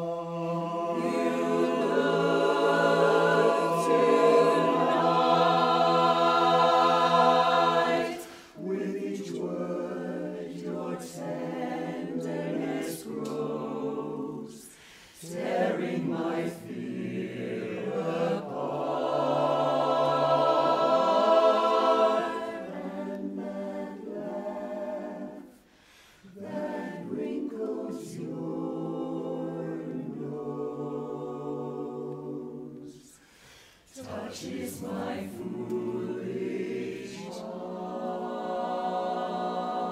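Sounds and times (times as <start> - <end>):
chorus singing a cappella: 0.0 - 39.9.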